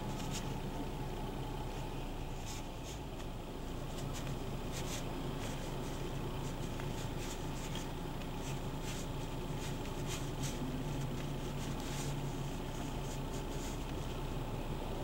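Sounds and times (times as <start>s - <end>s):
steady low hum: 0.0s - 15.0s
brush strokes on paper: 2.1s - 14.4s.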